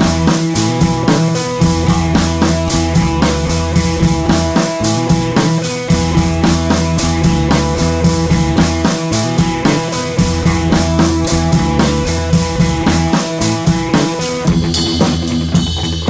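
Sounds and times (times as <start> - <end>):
music with drum beat: 0.0 - 16.0.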